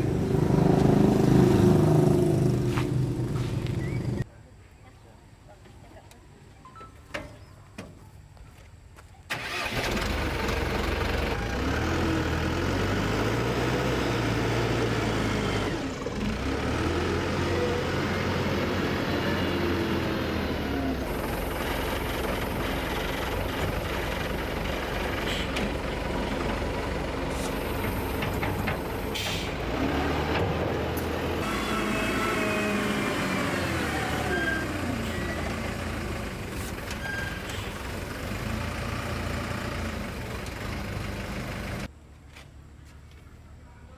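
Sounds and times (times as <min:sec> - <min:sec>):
engine running: 0:00.0 - 0:04.2, 0:09.3 - 0:41.9.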